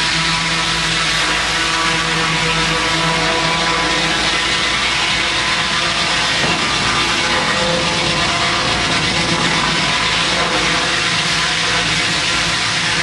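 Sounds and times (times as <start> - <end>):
mill power unit running: 0.0 - 13.0
saw blade cutting through log: 2.4 - 13.0.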